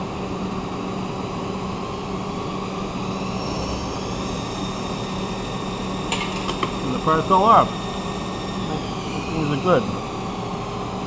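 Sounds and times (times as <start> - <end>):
lathe spindle hum: 0.0 - 11.0.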